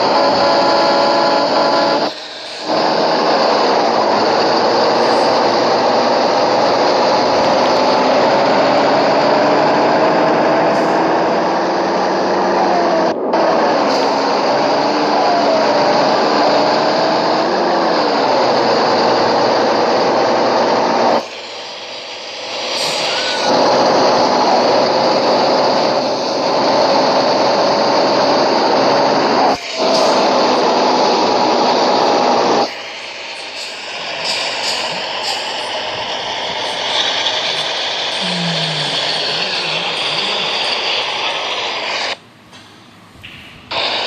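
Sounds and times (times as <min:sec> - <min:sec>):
motor running: 0:00.0 - 0:42.2.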